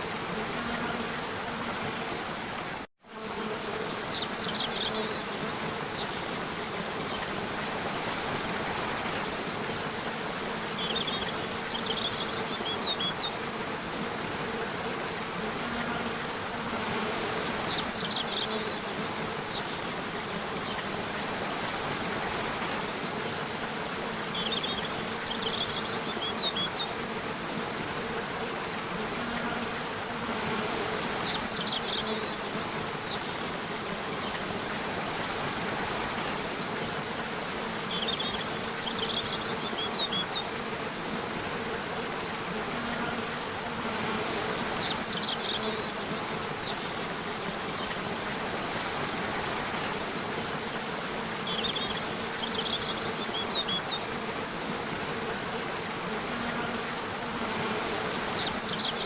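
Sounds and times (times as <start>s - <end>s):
rushing water: 0.0s - 2.9s, 3.9s - 59.0s
insect buzz: 0.0s - 59.0s.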